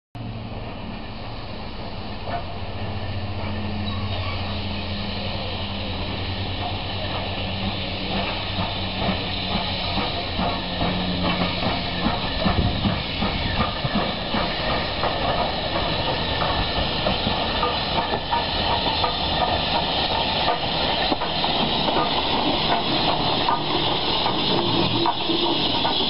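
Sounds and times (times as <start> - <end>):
steam hissing: 0.4 - 26.0.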